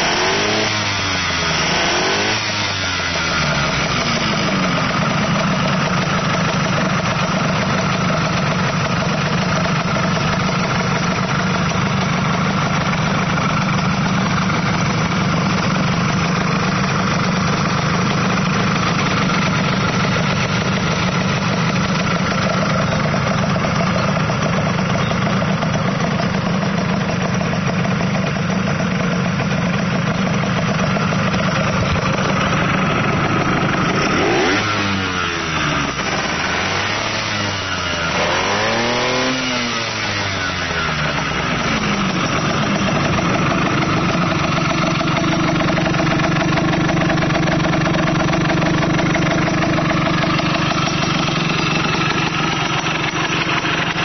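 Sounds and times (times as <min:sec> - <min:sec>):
minibike engine idling: 0:00.0 - 0:54.0.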